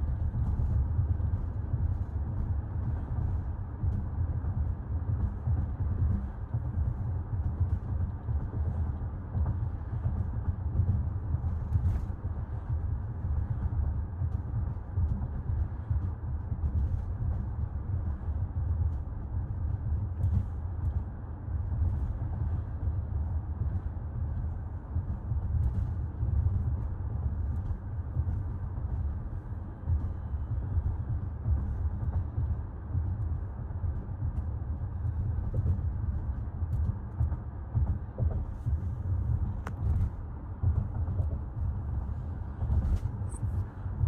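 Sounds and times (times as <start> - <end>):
car road and tyre rumble: 0.0 - 44.0.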